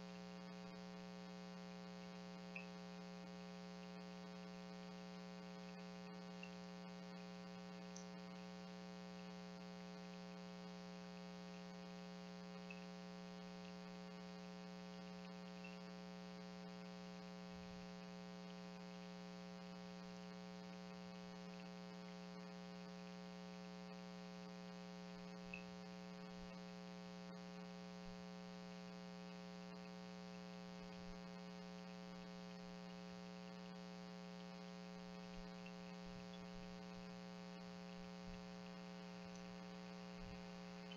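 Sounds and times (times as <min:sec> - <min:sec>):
faint electrical hum: 0:00.0 - 0:40.9
faint ticks: 0:00.1 - 0:40.9.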